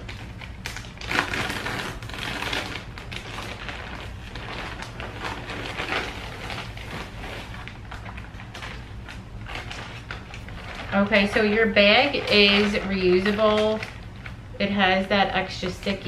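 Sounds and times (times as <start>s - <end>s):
plastic bag tearing and crinkling: 0.0s - 14.4s.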